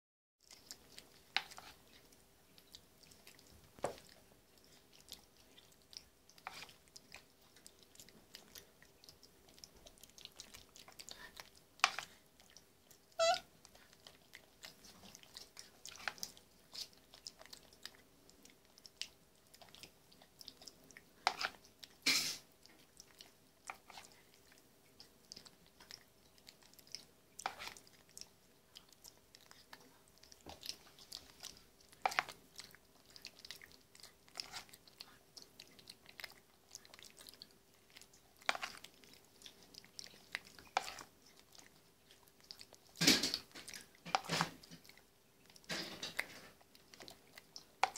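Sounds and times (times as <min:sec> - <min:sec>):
monkey smacking and chewing: 0:00.4 - 0:47.9.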